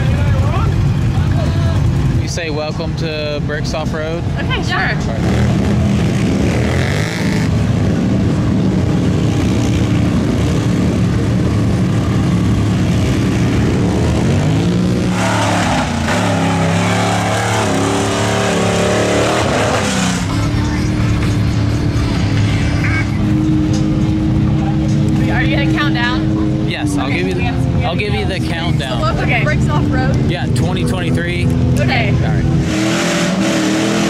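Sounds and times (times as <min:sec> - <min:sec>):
engine revving: 0:00.0 - 0:34.0
off-road engines in mud: 0:00.0 - 0:34.0.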